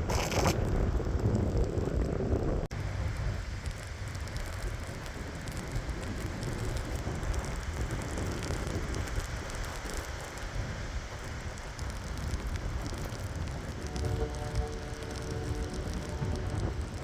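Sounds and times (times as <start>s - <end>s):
snow ticking: 0.0s - 17.0s
strong wind gusting: 0.0s - 17.0s.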